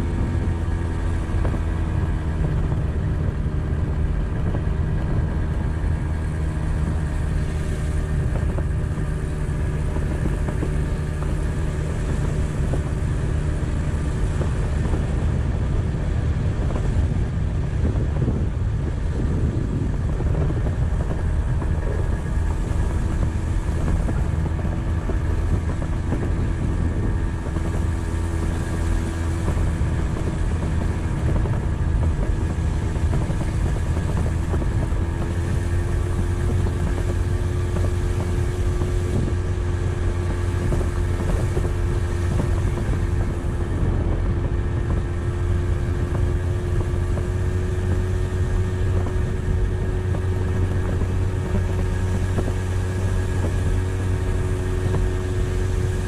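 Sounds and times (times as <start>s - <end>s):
motorbike engine rumbling: 0.0s - 56.0s.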